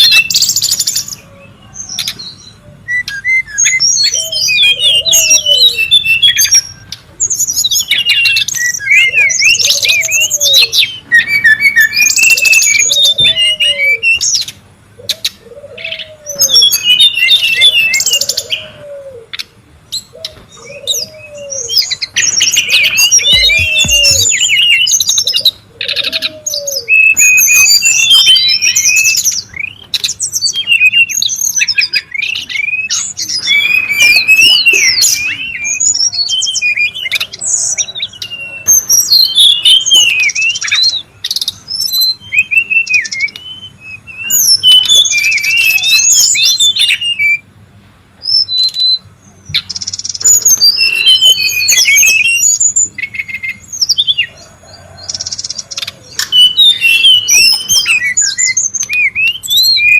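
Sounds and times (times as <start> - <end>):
bird singing chirps and trills: 0.0 - 47.6, 48.2 - 59.9.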